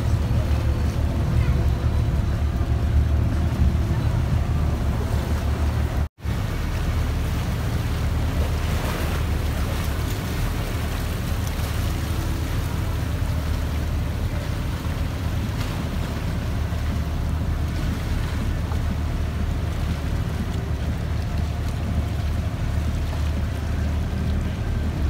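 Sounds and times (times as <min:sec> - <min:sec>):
boat engine rumbling: 0:00.0 - 0:25.0
water noise: 0:00.0 - 0:25.0
wind: 0:00.0 - 0:25.0.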